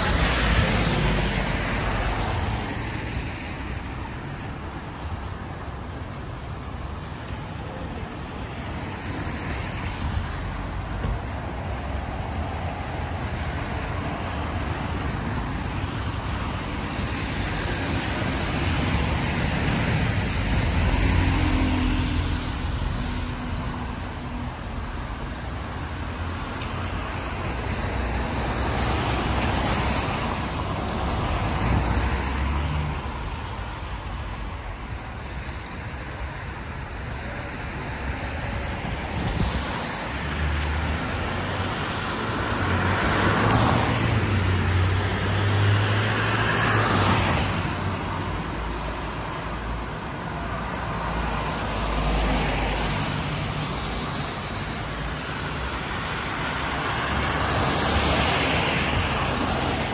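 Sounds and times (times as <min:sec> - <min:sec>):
cars passing on wet road: 0:00.0 - 0:59.9.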